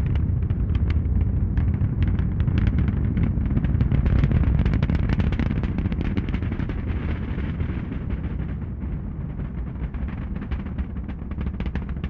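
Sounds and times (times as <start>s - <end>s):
rocket launch exhaust rumble: 0.0s - 12.0s.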